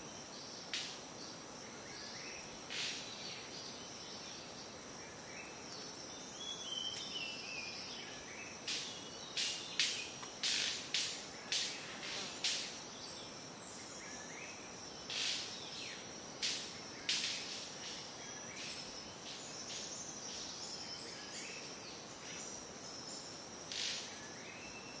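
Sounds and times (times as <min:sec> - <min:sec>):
insect chirring: 0:00.0 - 0:25.0.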